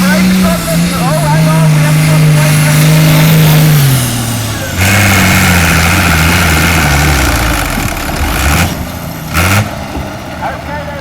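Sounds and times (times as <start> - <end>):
tractor engine revving: 0.0 - 11.0.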